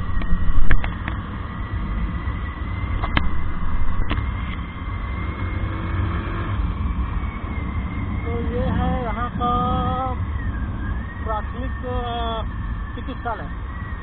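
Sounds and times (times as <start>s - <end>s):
motorcycle engine: 0.0s - 14.0s
wind rumble on microphone: 0.0s - 14.0s.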